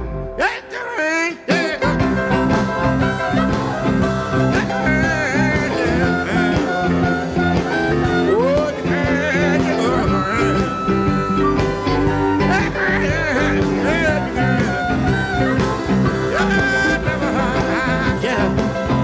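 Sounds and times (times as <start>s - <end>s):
electric blues band playing: 0.0s - 19.0s.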